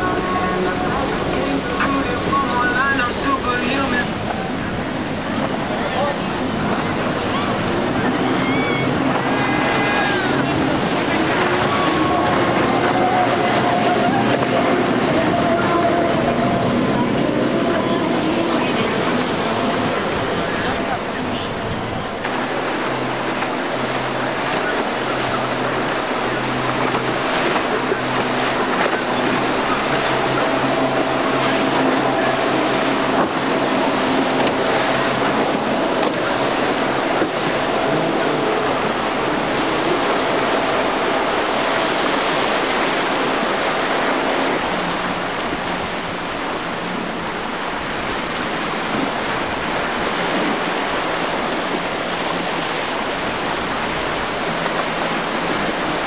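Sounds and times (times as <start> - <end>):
outboard engines humming: 0.0 - 56.0
waves and churning water: 0.0 - 56.0.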